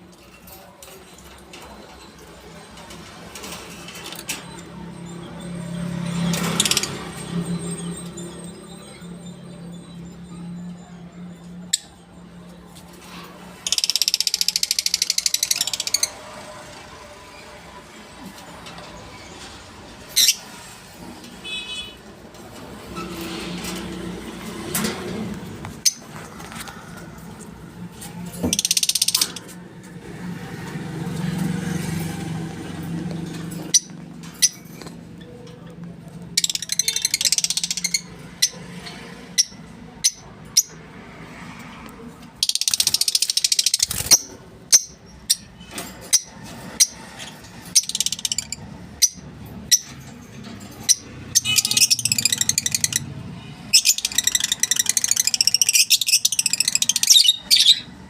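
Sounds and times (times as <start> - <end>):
parrots chattering and screeching: 0.1 - 12.0, 12.9 - 22.0, 22.6 - 29.6, 30.7 - 58.0.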